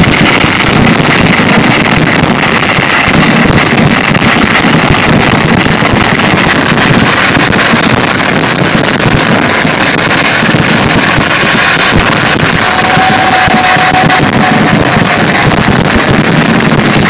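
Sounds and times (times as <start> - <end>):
firework explosions: 0.0 - 17.0.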